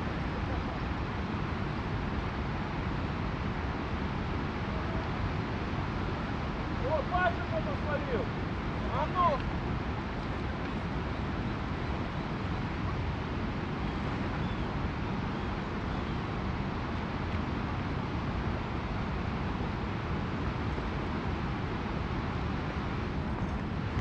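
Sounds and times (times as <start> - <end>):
fast-flowing river rushing: 0.0 - 24.0
wind rumble on microphone: 0.0 - 24.0.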